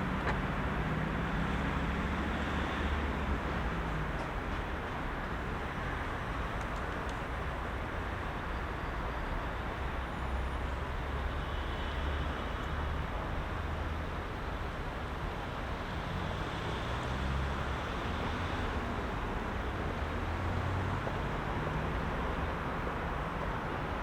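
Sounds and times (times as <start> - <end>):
heavy road traffic rumble: 0.0 - 24.0.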